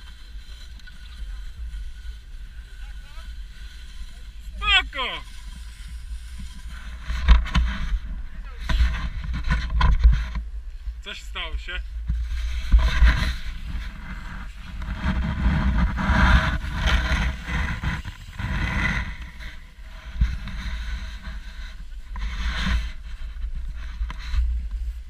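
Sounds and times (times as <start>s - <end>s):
sled runners scraping on snow: 0.0s - 25.0s.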